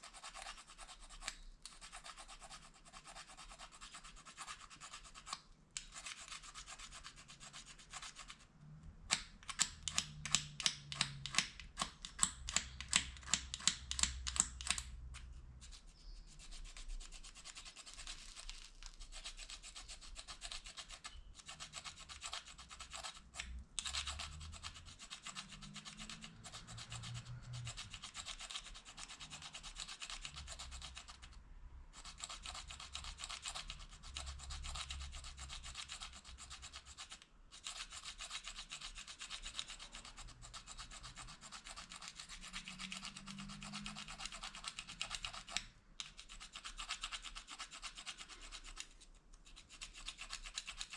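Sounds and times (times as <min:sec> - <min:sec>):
plastic fork scraping plastic spoon: 0:09.1 - 0:31.2, 0:32.0 - 0:50.9.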